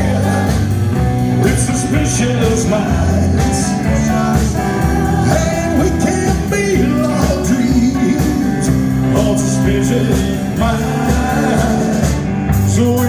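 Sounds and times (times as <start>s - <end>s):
guitar: 0.0s - 13.0s
live rock and roll band: 0.0s - 13.0s.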